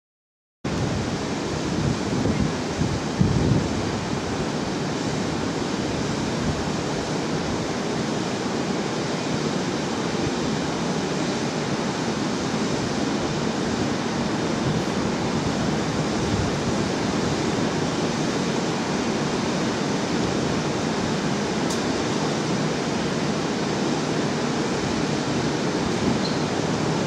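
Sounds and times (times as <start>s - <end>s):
wind rushing on microphone: 0.7s - 27.0s.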